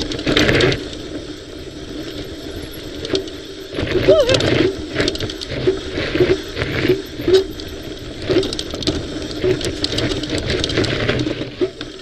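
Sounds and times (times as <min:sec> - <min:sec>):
mountain bike rattling over rocks: 0:00.0 - 0:12.0.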